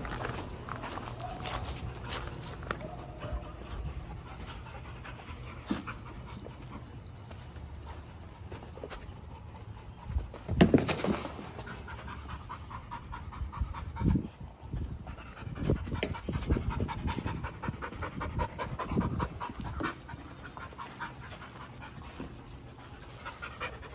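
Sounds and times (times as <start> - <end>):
dogs panting: 0.0 - 23.9.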